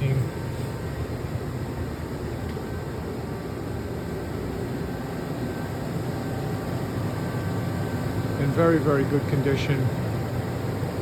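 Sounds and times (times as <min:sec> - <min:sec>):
faint high whine: 0:00.0 - 0:11.0
mill machine hum: 0:00.0 - 0:11.0.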